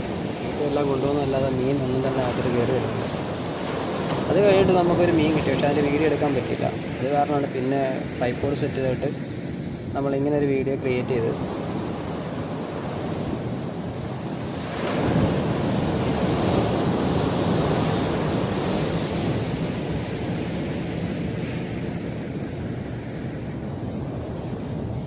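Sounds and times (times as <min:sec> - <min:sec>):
surf breaking on beach: 0:00.0 - 0:25.0
wind buffeting microphone: 0:00.0 - 0:25.0.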